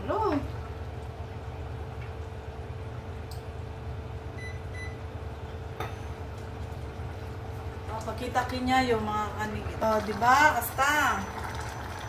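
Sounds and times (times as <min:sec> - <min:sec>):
electric cooktop hum: 0:00.0 - 0:12.0.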